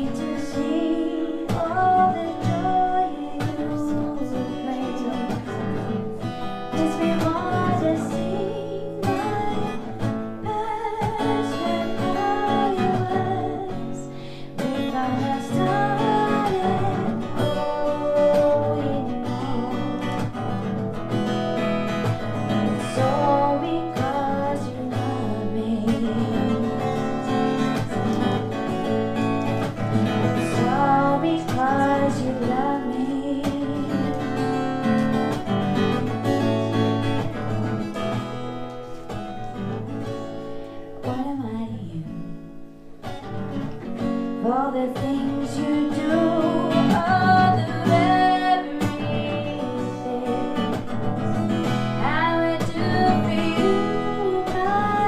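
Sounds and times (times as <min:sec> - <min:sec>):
person singing: 0:00.0 - 0:20.9, 0:21.9 - 0:28.7, 0:29.3 - 0:37.5, 0:44.4 - 0:55.0
acoustic guitar: 0:00.0 - 0:55.0.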